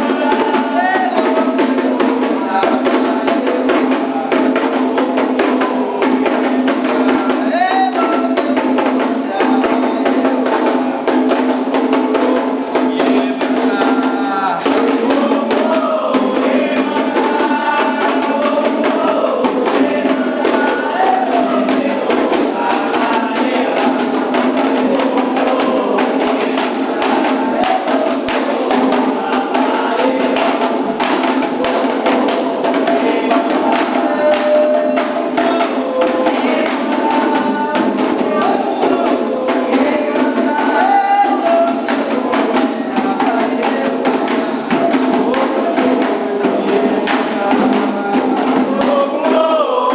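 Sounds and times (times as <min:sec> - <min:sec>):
group singing: 0:00.0 - 0:49.9
hand drums: 0:00.0 - 0:49.9.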